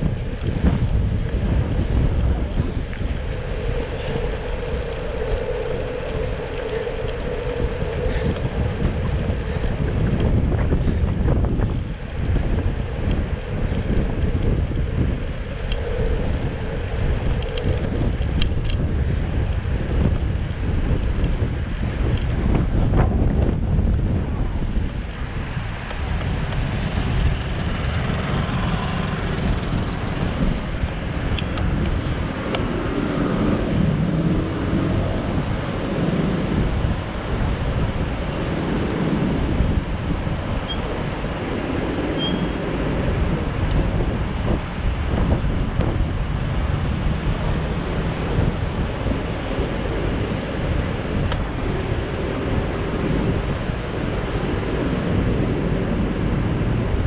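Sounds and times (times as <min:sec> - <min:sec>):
bicycle road noise: 0:00.0 - 0:57.0
city traffic: 0:00.0 - 0:57.0
wind rumble: 0:00.0 - 0:57.0.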